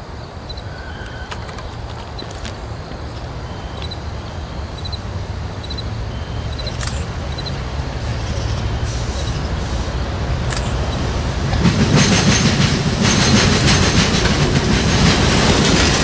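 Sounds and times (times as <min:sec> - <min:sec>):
freight train locomotive rumble: 0:00.0 - 0:16.0.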